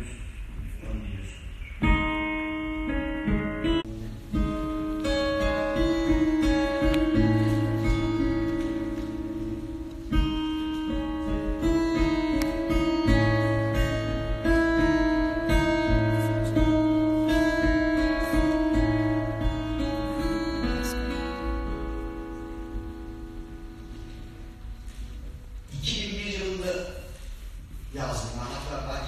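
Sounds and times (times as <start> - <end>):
acoustic guitar: 0.1 - 29.0.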